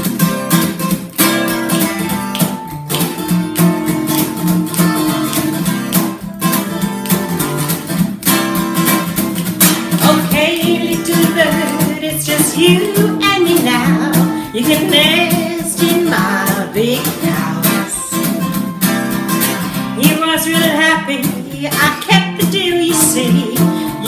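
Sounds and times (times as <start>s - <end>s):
acoustic guitar strummed: 0.0s - 24.0s.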